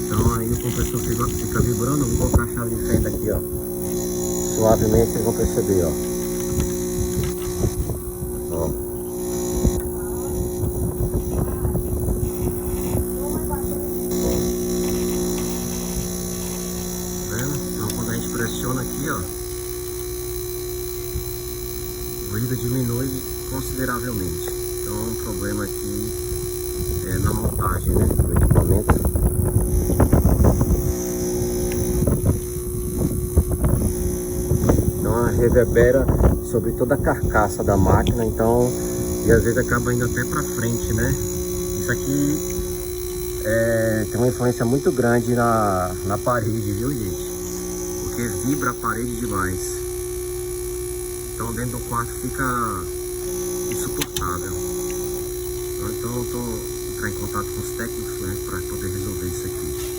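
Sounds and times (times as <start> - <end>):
air conditioner compressor humming: 0.0 - 59.9
rattling vibration: 0.0 - 59.9.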